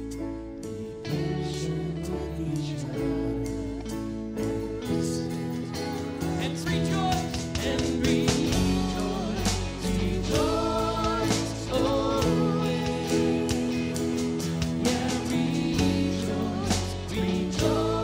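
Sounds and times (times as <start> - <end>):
acoustic guitar: 0.0 - 18.0
electric guitar: 0.0 - 18.0
man singing: 0.7 - 4.1, 4.8 - 18.0
drum kit: 1.2 - 18.0.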